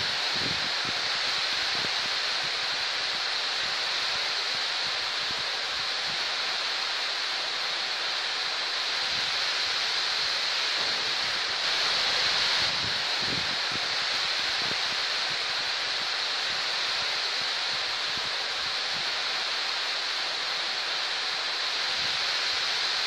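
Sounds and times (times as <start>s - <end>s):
heavy rain on trees and grass: 0.0s - 23.0s.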